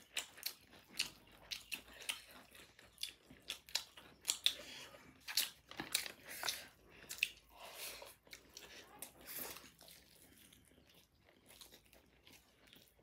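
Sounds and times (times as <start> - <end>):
close-up chewing food: 0.0 - 13.0.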